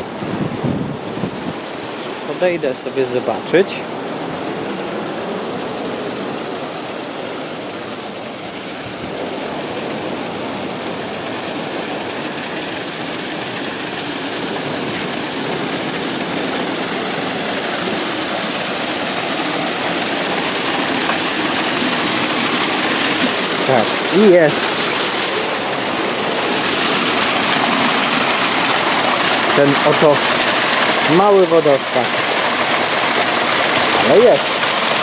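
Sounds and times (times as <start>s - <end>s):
waterfall rushing hiss: 0.0s - 35.0s.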